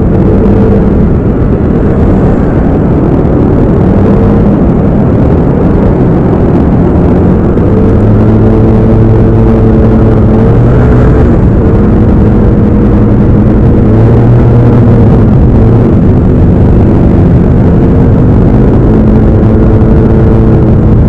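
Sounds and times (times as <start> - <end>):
scooter engine drone: 0.0 - 21.0.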